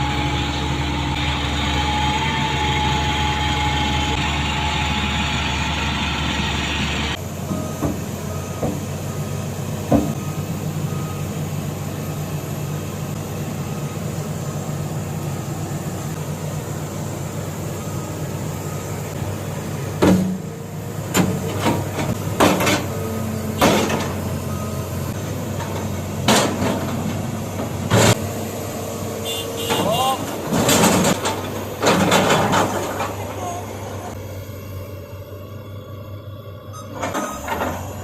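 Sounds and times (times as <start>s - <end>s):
construction machine engine running: 0.0s - 38.0s.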